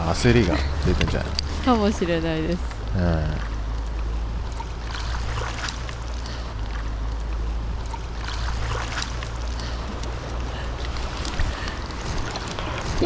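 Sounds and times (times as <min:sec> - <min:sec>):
low rumble: 0:00.0 - 0:13.0
stream water flowing: 0:00.0 - 0:13.0.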